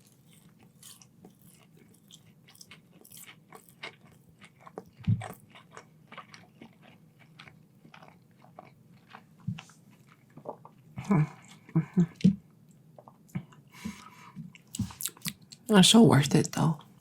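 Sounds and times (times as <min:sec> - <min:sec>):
chewing crunchy food: 0:00.0 - 0:15.7.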